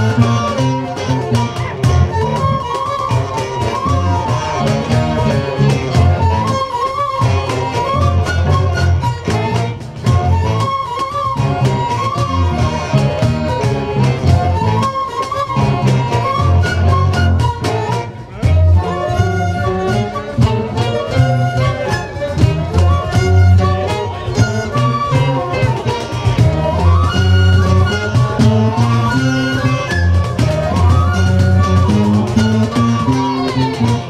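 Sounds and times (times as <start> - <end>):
djembe beating: 0.0 - 34.0
folk band playing instrumental tune: 0.0 - 34.0.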